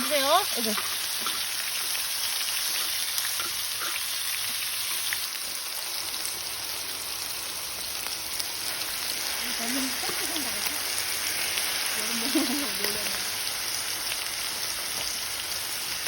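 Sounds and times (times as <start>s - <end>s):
meat sizzling in fat: 0.0s - 16.0s.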